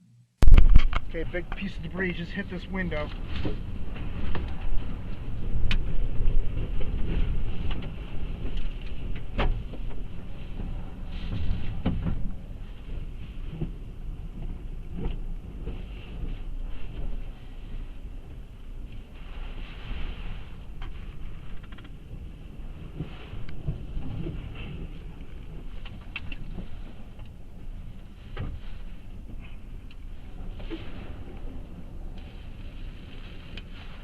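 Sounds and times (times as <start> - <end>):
strong wind buffeting a truck: 0.4 - 34.0.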